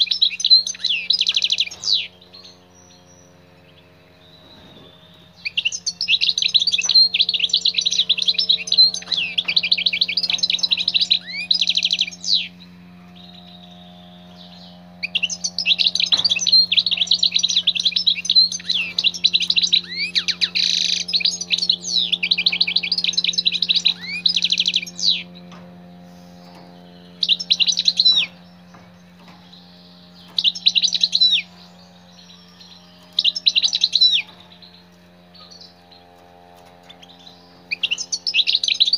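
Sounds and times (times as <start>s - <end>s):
bird singing: 0.0s - 38.9s
low hum: 0.0s - 38.9s.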